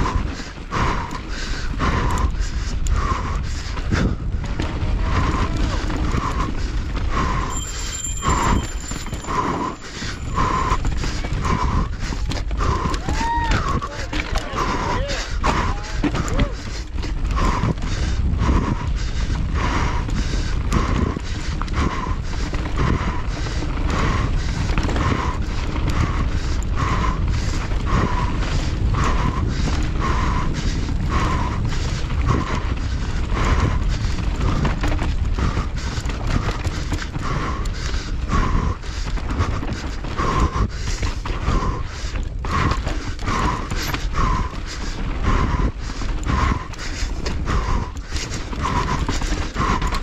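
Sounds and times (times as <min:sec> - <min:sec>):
bike rattling and knocking: 0:00.0 - 0:50.0
tyre noise: 0:00.0 - 0:50.0
wind noise: 0:00.0 - 0:50.0.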